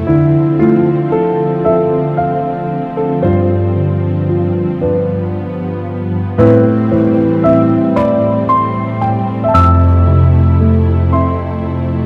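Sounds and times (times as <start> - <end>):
soft new-age music: 0.0 - 12.0.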